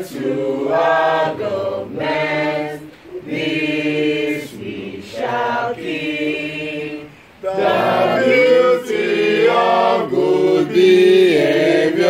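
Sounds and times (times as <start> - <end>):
group singing an anthem: 0.0 - 12.0.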